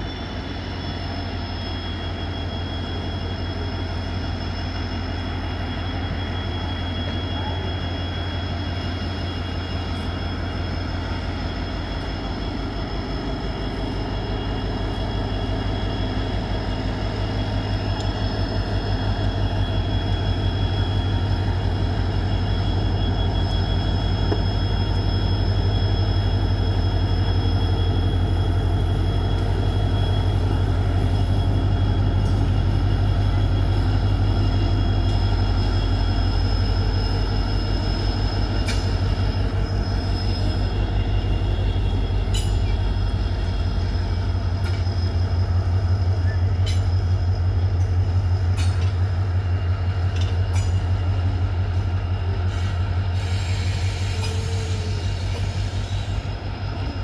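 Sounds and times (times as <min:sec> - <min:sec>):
thin high whine: 0:00.0 - 0:56.4
diesel locomotive engine throb: 0:00.0 - 0:57.0.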